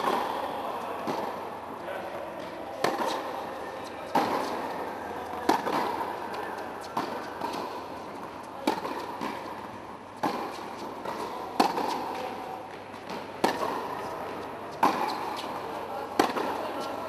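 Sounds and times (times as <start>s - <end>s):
tennis ball struck by racket: 0.0s - 17.0s.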